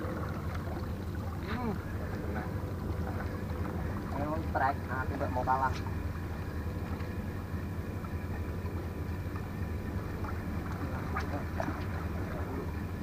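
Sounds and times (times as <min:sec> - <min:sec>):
distant boat engine drone: 0:00.0 - 0:13.0
faint steady hum: 0:00.0 - 0:13.0.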